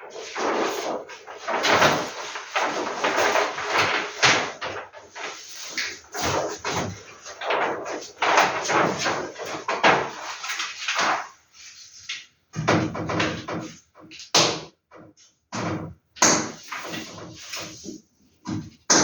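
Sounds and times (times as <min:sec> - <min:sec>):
paper rustling and crinkling: 0:00.0 - 0:14.3, 0:16.6 - 0:18.8.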